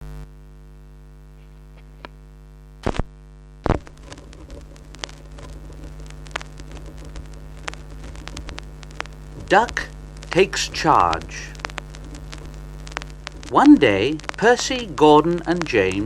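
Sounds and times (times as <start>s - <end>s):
mains hum: 0.0s - 16.0s
vinyl record crackle: 0.0s - 16.0s.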